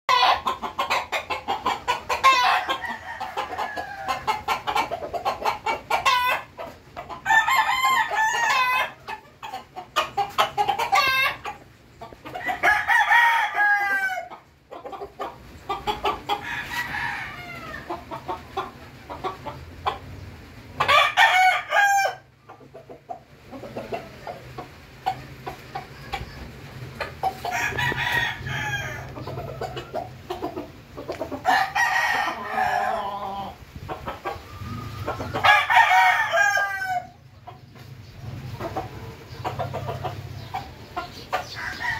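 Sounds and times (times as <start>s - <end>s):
roosters crowing: 0.1s - 20.1s, 20.7s - 22.8s, 23.4s - 41.9s.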